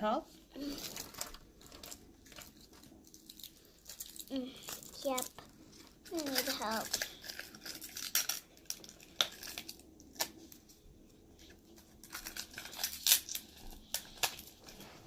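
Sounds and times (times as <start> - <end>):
plastic packaging clicks and rustles: 0.6 - 10.7, 11.4 - 15.0.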